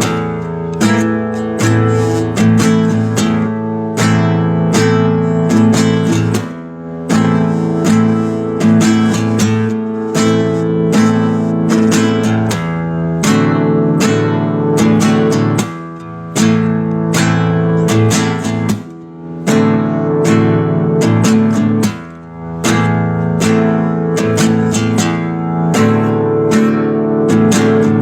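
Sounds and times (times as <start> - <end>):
acoustic guitar strummed and plucked: 0.0 - 28.0.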